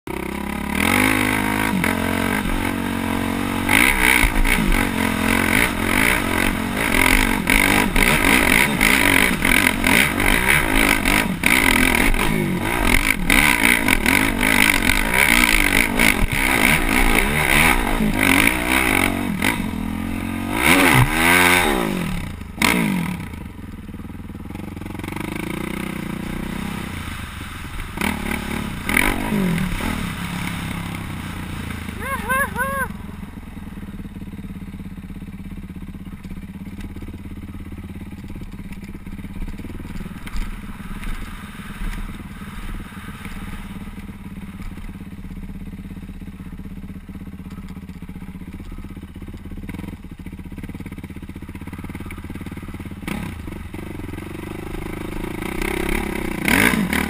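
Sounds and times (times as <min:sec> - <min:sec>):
dirt bike engine revving: 0:00.1 - 0:57.0.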